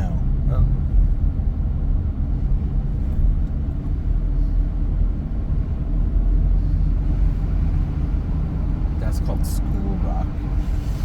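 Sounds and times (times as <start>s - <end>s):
car interior road noise: 0.0s - 11.0s.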